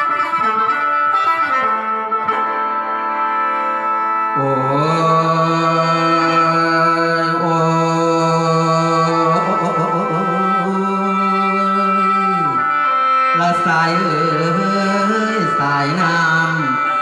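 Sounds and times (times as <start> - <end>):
long held sliding melody line: 0.0 - 17.0.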